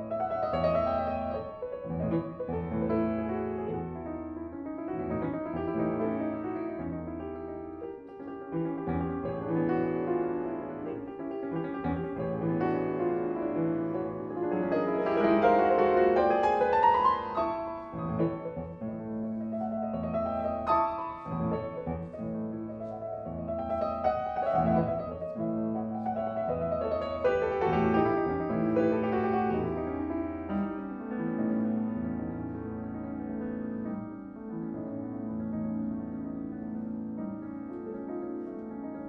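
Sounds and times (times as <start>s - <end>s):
classical solo piano music: 0.0s - 39.0s.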